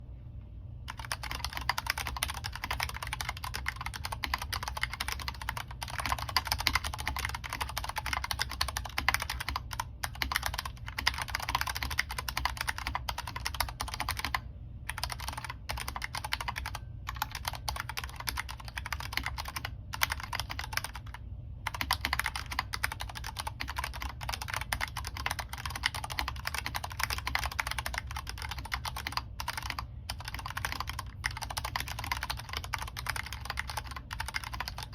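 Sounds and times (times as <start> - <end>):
steady low hum: 0.0 - 34.9
mechanical keyboard typing: 0.9 - 34.9.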